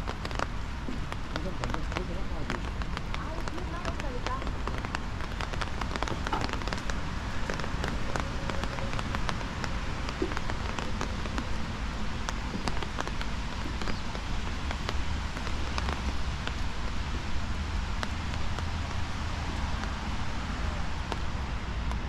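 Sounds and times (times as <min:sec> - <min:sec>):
rain hiss: 0:00.0 - 0:22.0
raindrops ticking: 0:00.0 - 0:22.0.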